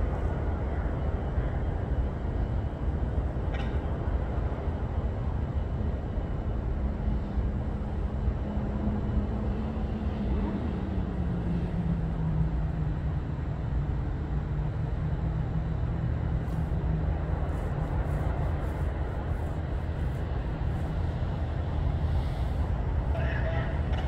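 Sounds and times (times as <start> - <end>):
diesel locomotive droning: 0.0 - 24.0.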